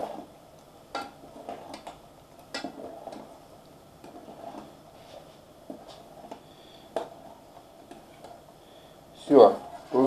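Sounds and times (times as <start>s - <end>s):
spoon stirring liquid: 0.0s - 8.4s.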